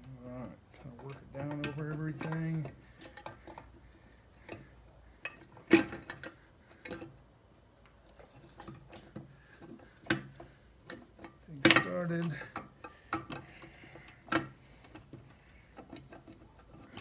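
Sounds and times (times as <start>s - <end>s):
metal clicks and clunks: 0.7s - 3.8s, 4.4s - 17.0s.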